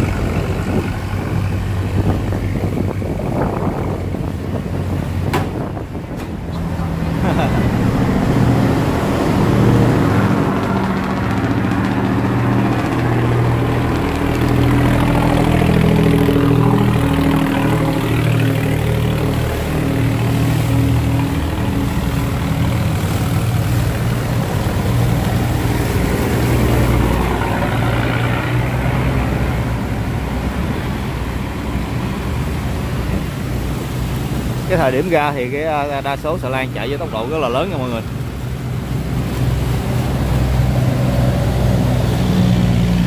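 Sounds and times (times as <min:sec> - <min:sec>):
barge diesel engine: 0:00.0 - 0:43.0
fast-flowing water rushing: 0:00.0 - 0:43.0.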